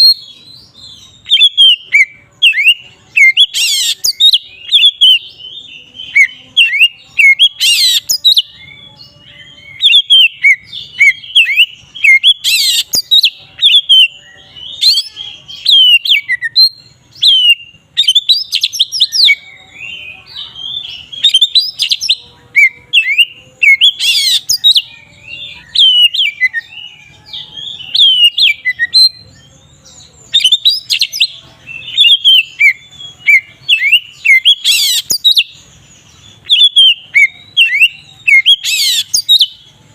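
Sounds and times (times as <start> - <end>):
bird singing whistled song: 0.0 - 39.9
harsh bird notes: 0.0 - 39.9.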